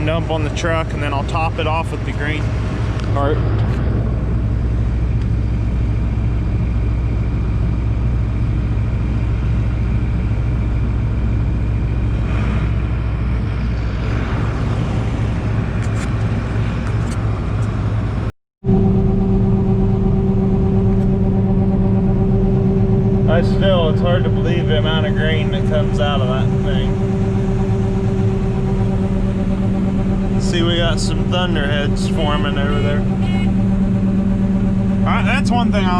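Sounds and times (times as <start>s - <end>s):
combine harvester humming: 0.0s - 35.9s.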